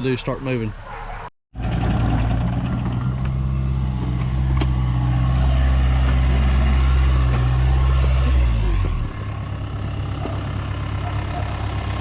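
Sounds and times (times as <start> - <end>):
diesel engine droning: 1.6 - 12.0.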